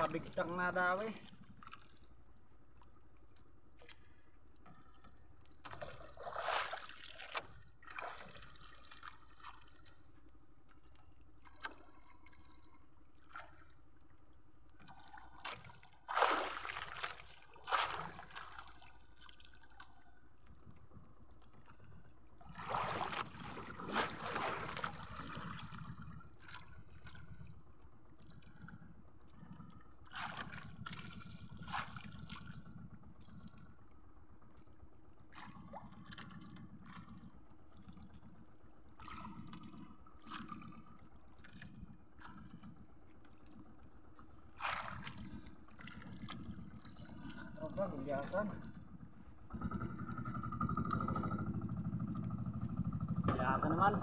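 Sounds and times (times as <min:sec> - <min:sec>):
water splashing against hull: 0:00.0 - 0:54.0.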